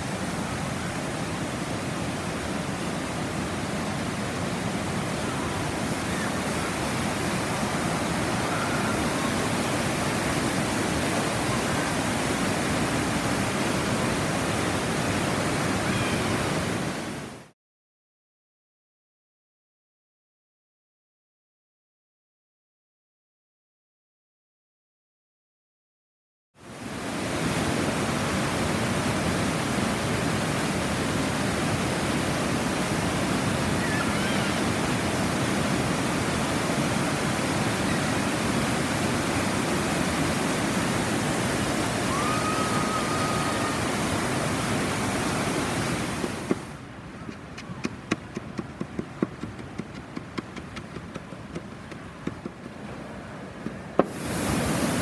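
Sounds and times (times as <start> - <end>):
water rushing over waterfall: 0.0 - 17.5, 26.6 - 48.7, 49.4 - 55.0.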